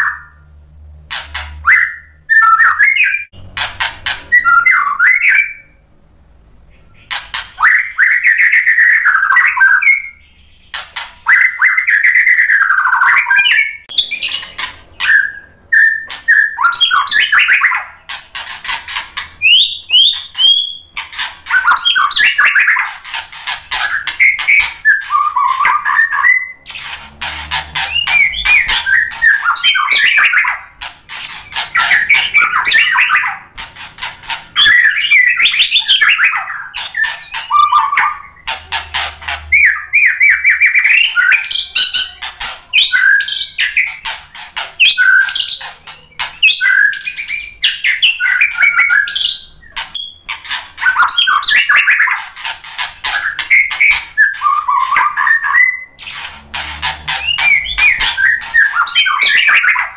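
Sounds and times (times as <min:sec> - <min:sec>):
songbird singing whistles: 0:01.6 - 0:03.3, 0:04.3 - 0:05.8, 0:06.7 - 0:18.0, 0:19.2 - 0:22.9, 0:23.8 - 0:27.0, 0:27.7 - 0:33.4, 0:34.5 - 0:38.5, 0:39.5 - 0:42.2, 0:42.8 - 0:44.0, 0:44.8 - 0:52.2, 0:53.1 - 0:56.2, 0:57.1 - 0:59.9.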